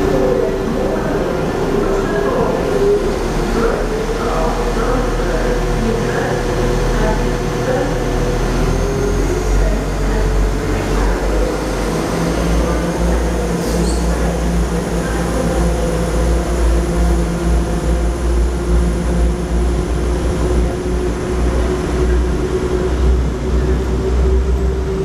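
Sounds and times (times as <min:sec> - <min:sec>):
diesel train engines running: 0:00.0 - 0:25.0.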